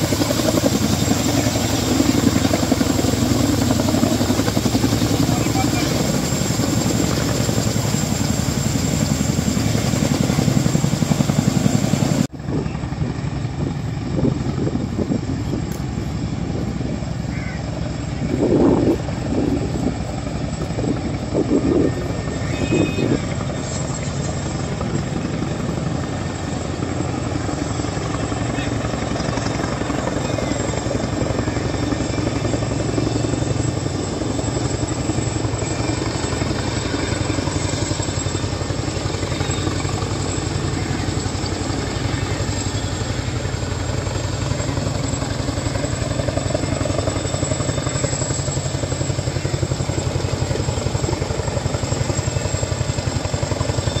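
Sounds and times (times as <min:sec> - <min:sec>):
helicopter engine noise: 0:00.0 - 0:54.0
helicopter rotors chopping: 0:00.0 - 0:54.0.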